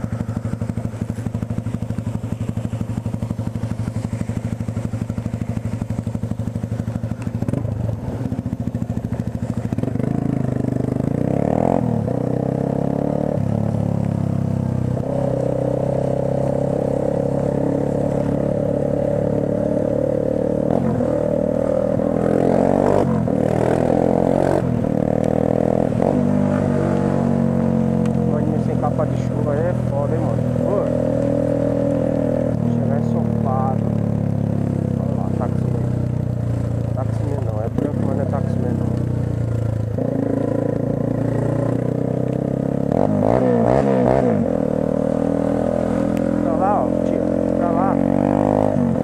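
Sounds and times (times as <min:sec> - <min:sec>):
motorcycle engine: 0:00.0 - 0:49.0.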